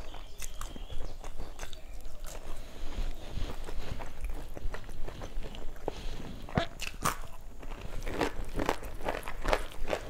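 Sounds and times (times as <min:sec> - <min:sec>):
chewing and mouth sounds: 0:00.0 - 0:10.0.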